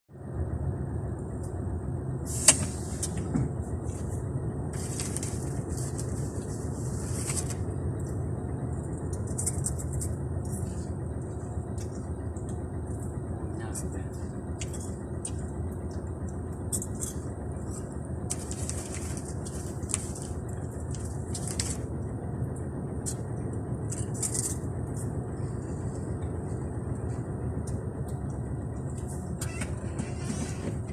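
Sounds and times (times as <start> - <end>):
vehicle engine rumble: 0.1 - 30.9.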